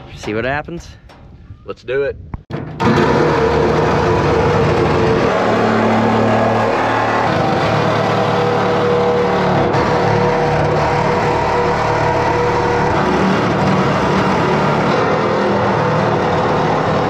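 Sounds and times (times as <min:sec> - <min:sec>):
reciprocating saw cutting steel: 0:02.8 - 0:17.0.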